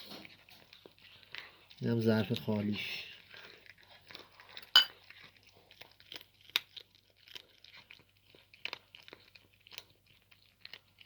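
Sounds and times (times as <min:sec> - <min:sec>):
cat chewing and crunching bones: 0:00.0 - 0:11.0.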